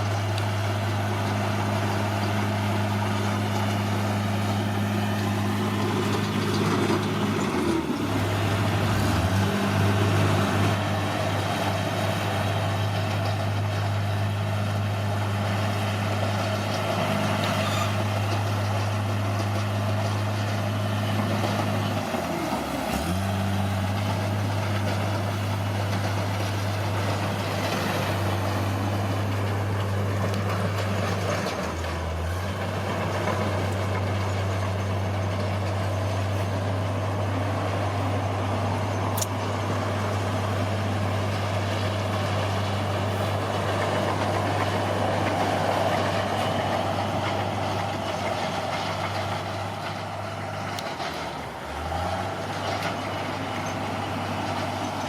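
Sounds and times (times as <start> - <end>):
diesel engine drone: 0.0 - 55.0
rough mechanical noise: 0.0 - 55.0.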